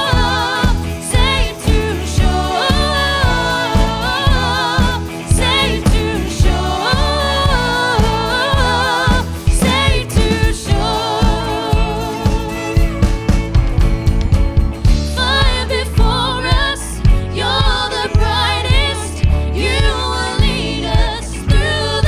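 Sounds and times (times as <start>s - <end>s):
song with band and vocals: 0.0s - 22.0s.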